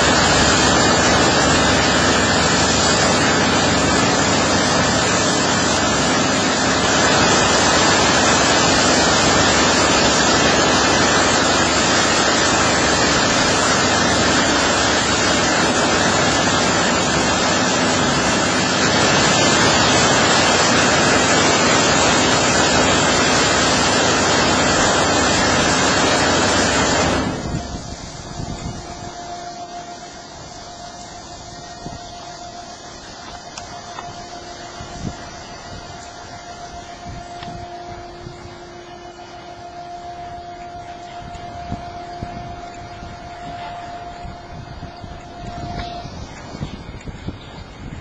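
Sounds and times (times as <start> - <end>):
steady machine hum: 0.0 - 48.0
water jets spraying: 0.0 - 48.0.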